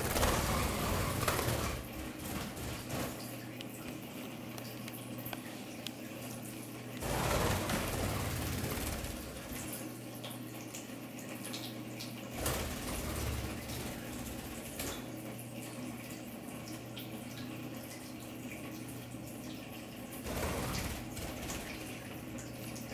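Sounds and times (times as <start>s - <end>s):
running water rushing: 0.0s - 22.9s.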